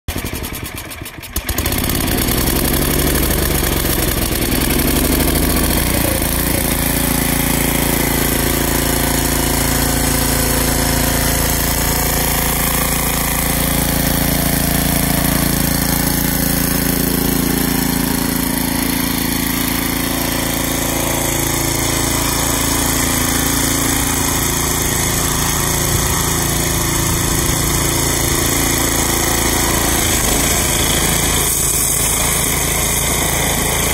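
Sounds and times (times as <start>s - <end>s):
snow blower engine running: 0.1s - 33.9s.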